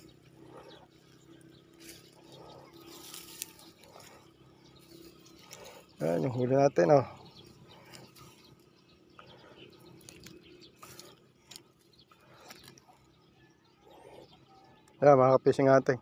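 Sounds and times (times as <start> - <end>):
soft ticks and rustles: 0.0 - 13.2.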